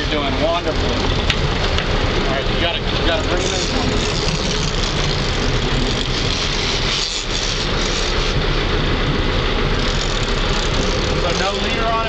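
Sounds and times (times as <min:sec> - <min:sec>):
boat engine running: 0:00.0 - 0:12.0
low hum: 0:00.0 - 0:12.0
wind and water rushing: 0:00.0 - 0:12.0.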